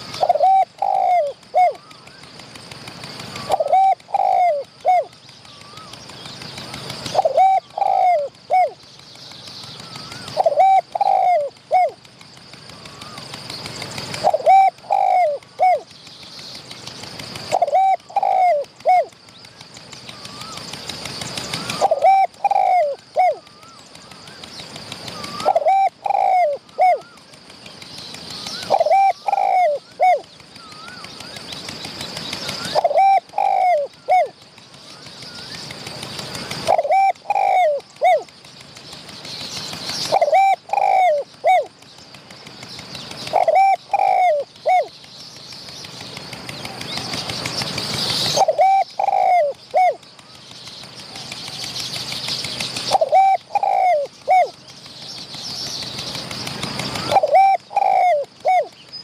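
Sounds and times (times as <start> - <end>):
doves cooing: 0.0 - 45.1, 45.9 - 59.0.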